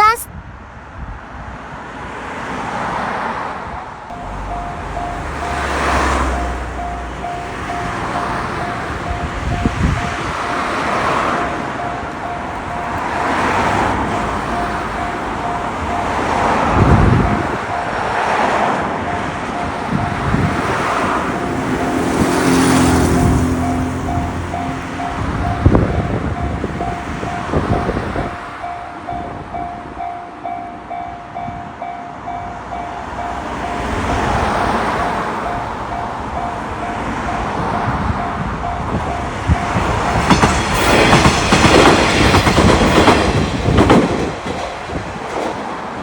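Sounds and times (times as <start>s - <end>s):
railroad crossing warning bell: 4.1s - 46.0s.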